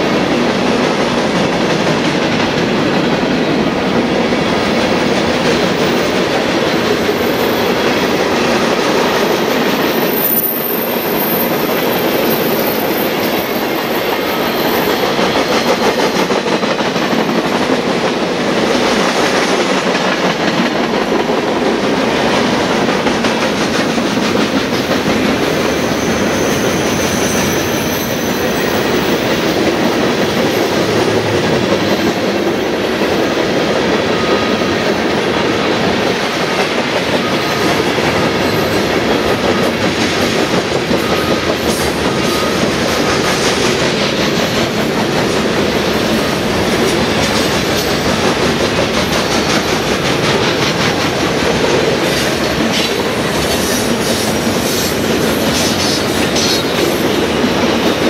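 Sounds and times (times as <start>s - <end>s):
freight train cars rolling past: 0.0s - 58.0s.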